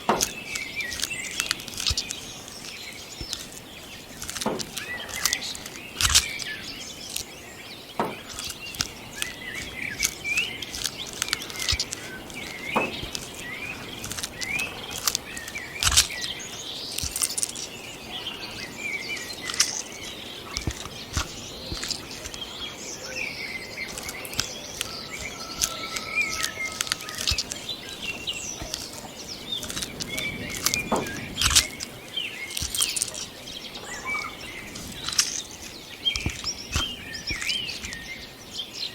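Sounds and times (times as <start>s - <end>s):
clicks and rustles: 0.0s - 38.9s
high bird chirps and calls: 0.0s - 38.9s.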